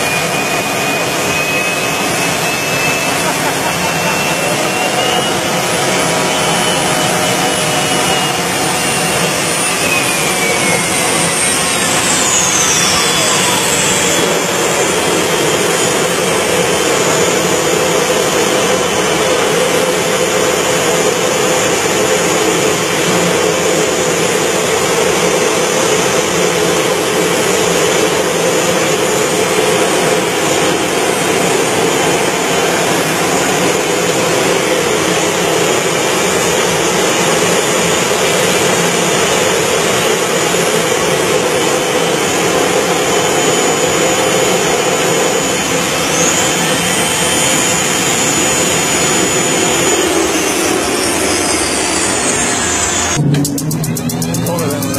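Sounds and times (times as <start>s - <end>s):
turbine engine roaring with whine: 0.0s - 54.9s.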